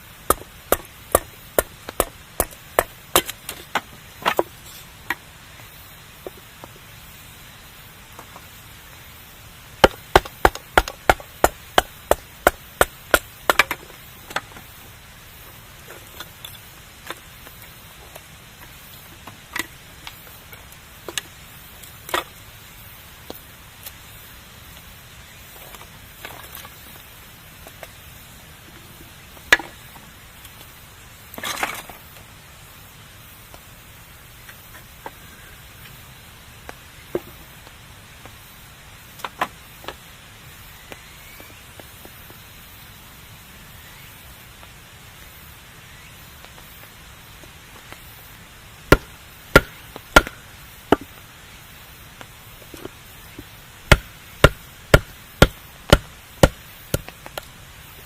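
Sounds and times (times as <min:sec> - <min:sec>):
campfire crackling: 0:00.0 - 0:58.0
low steady hiss: 0:00.0 - 0:58.0.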